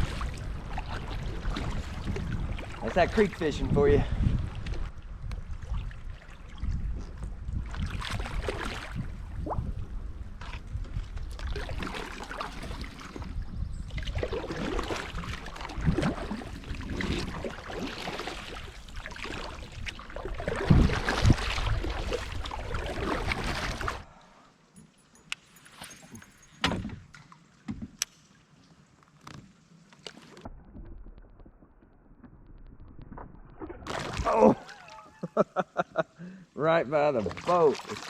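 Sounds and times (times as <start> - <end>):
water rushing and scraping: 0.0 - 24.1, 28.7 - 36.0, 36.6 - 38.0.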